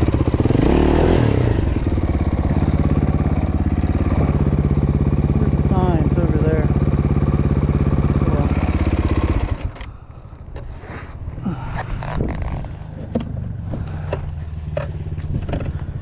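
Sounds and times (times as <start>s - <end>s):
dirt bike engine revving and idling: 0.0s - 16.0s.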